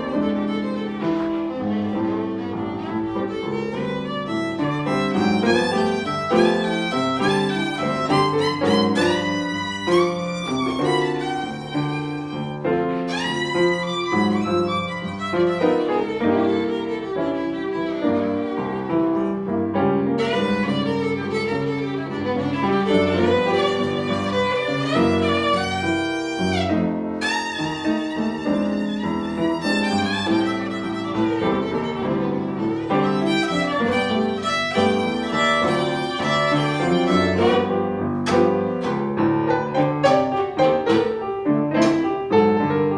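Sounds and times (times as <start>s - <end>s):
violin music with sliding pitches: 0.0s - 42.9s.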